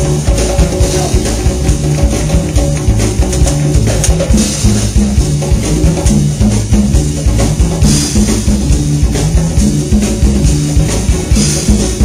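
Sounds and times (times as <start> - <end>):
bass drum hits: 0.0 - 12.0
live band playing: 0.0 - 12.0.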